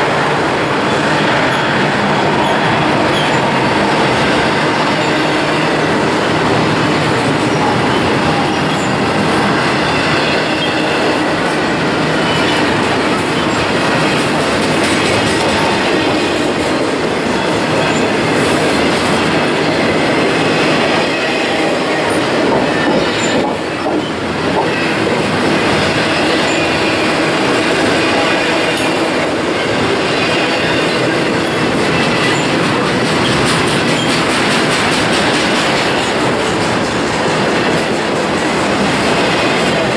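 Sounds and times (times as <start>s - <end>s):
steel wheels rolling on rail: 0.0s - 39.9s
high wheel squeal: 0.6s - 38.0s.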